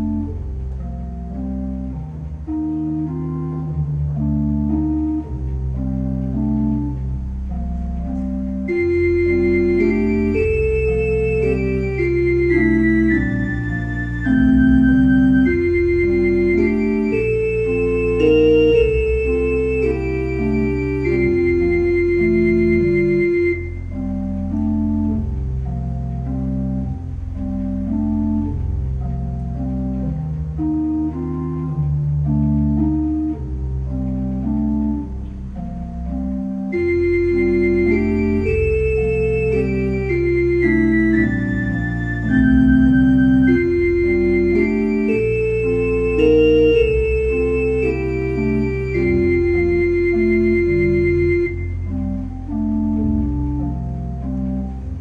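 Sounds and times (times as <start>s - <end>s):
church organ playing: 0.0s - 55.0s.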